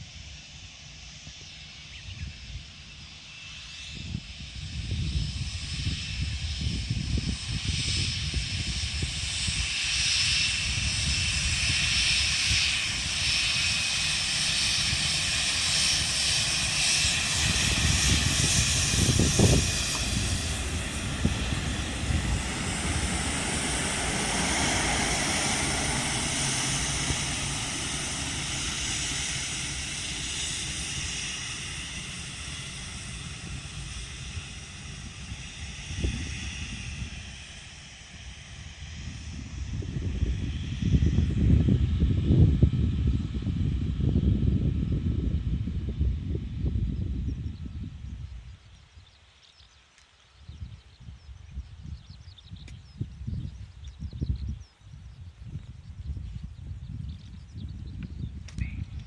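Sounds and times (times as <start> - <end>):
jet engines passing: 0.0 - 59.0.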